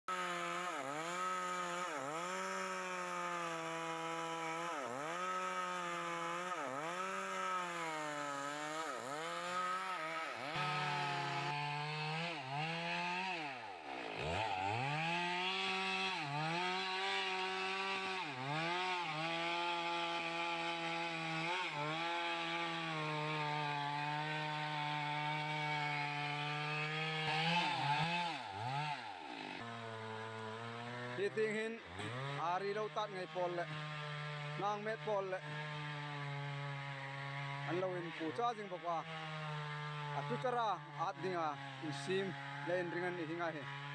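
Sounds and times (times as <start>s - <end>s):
chainsaw cutting into tree trunk: 0.1s - 43.9s.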